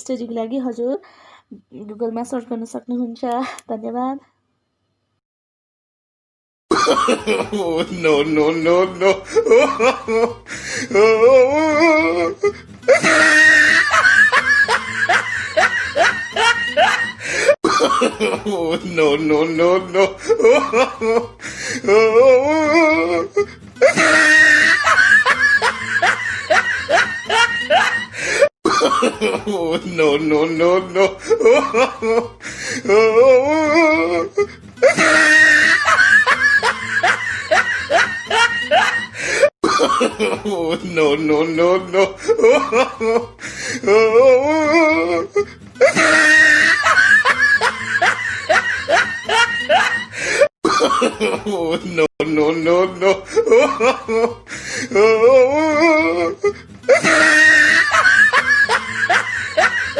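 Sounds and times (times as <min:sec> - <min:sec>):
voice laughing rhythmically: 0:03.3 - 0:03.7, 0:06.7 - 0:52.1, 0:52.7 - 0:59.9.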